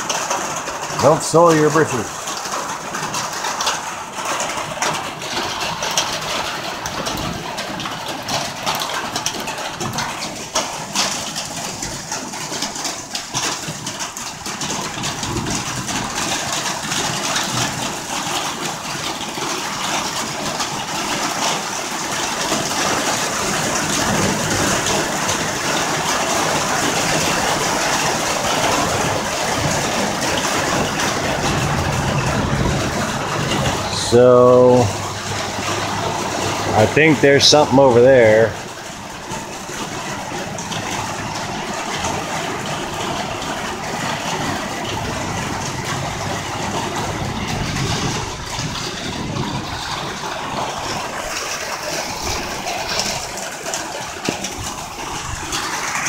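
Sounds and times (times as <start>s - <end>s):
heavy rain: 0.0s - 56.0s
wind: 0.0s - 56.0s.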